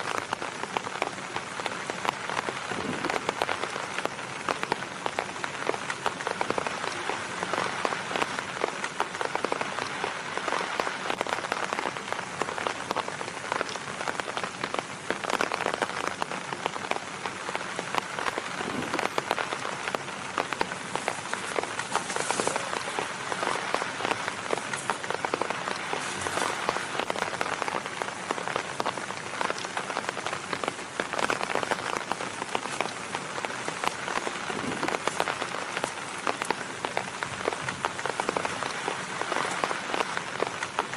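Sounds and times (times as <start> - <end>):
rain pattering on a tarp: 0.0 - 40.9.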